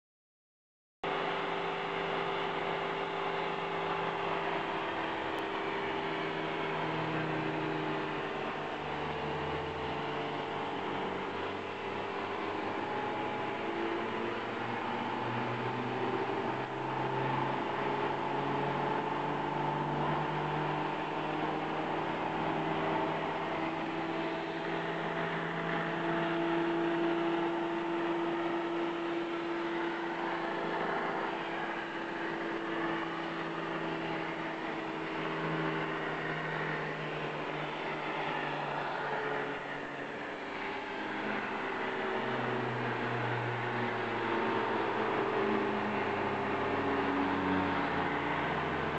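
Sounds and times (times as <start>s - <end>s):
machine hums and whines: 1.0s - 48.9s.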